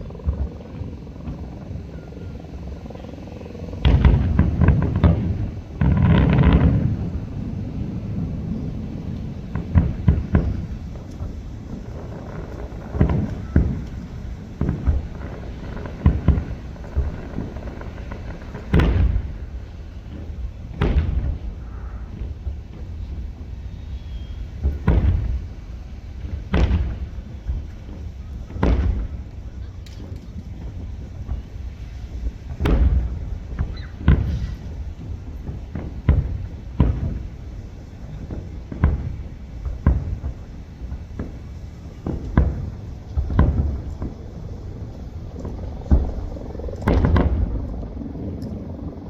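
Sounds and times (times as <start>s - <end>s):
fireworks booming: 0.0s - 49.0s
low rumbling echo: 0.0s - 49.0s.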